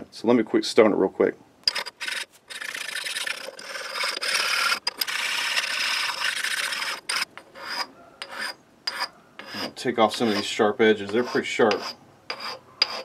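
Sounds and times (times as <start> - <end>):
sharpening stone rubbing on metal: 1.7 - 13.0.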